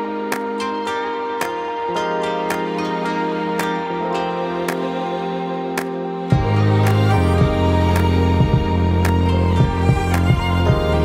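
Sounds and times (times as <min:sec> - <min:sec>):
held chord tones: 0:00.0 - 0:11.0.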